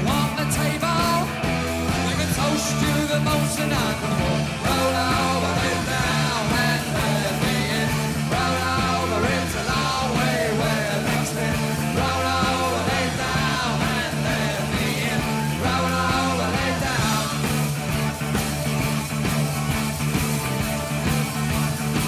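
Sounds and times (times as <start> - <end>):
rock song with singing: 0.0 - 22.0.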